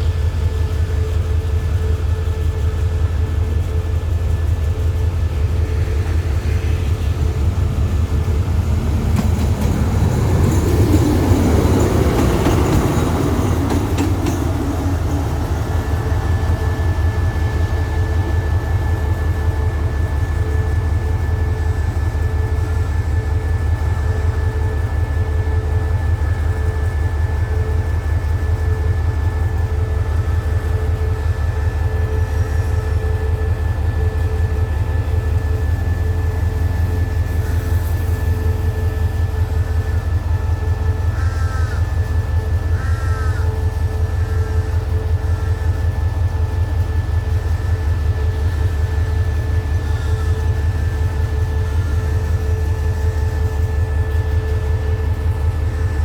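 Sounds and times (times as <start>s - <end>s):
diesel train engine throbbing: 0.0s - 56.0s
passing train rushing: 0.0s - 56.0s.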